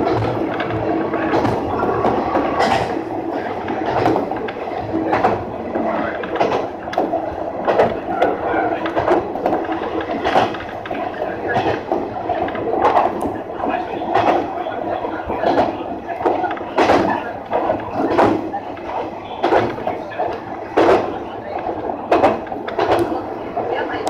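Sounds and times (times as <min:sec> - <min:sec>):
diesel railcar engine hum: 0:00.0 - 0:24.0.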